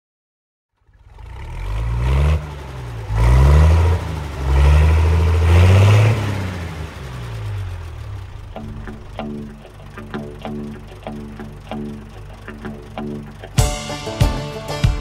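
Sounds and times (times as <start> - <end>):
large vehicle engine accelerating: 0.8 - 14.8.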